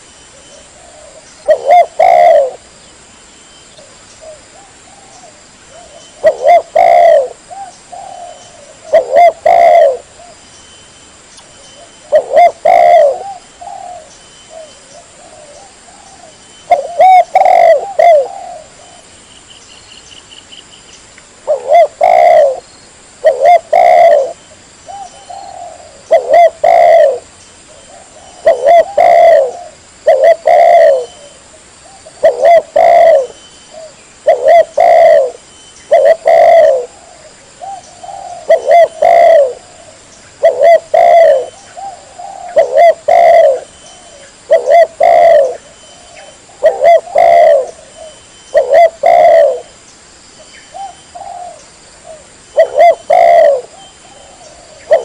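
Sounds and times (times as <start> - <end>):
dove cooing: 0.0 - 2.7, 3.8 - 10.4, 11.8 - 19.1, 21.4 - 22.6, 23.2 - 49.8, 50.7 - 55.0.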